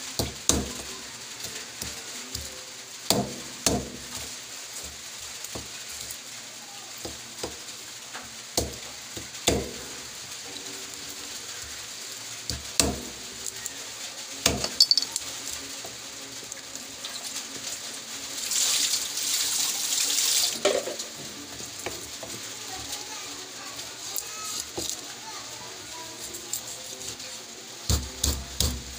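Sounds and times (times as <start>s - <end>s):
running water: 0.0s - 28.9s.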